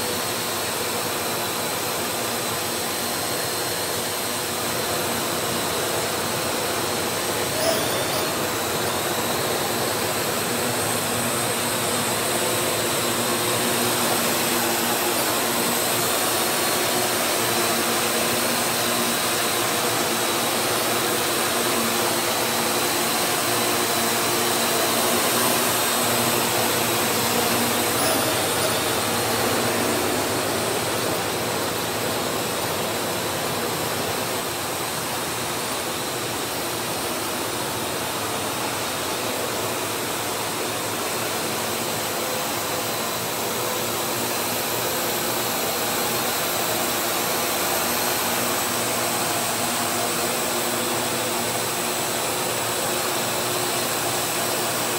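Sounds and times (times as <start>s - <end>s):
quadcopter propellers whirring: 0.0s - 54.9s.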